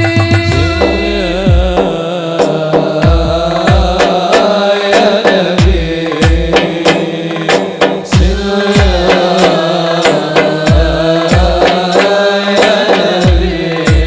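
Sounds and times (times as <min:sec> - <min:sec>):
ornamented singing voice: 0:00.0 - 0:14.0
sharp hand-drum strokes: 0:00.0 - 0:14.0.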